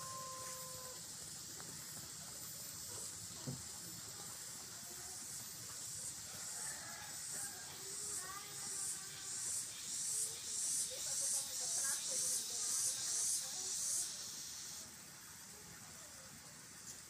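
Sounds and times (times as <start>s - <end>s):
high-pitched outdoor hiss: 0.0s - 17.0s.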